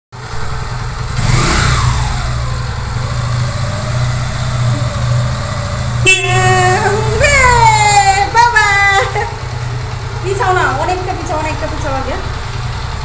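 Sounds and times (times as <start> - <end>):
motorcycle engine idling: 0.2 - 13.0.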